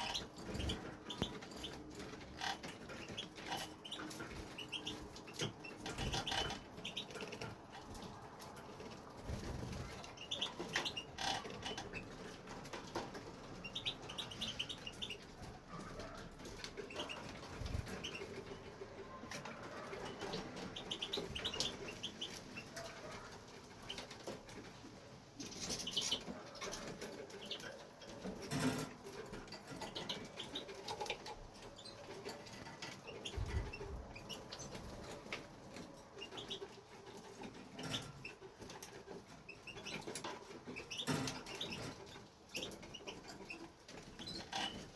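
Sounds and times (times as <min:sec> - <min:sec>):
bird chirping: 0:00.0 - 0:24.7, 0:25.3 - 0:44.9.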